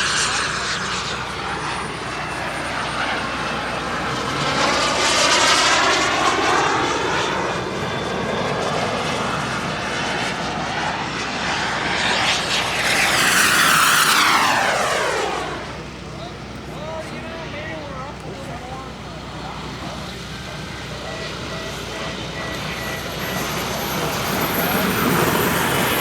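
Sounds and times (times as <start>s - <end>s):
model aircraft engine flying past: 0.0s - 26.0s.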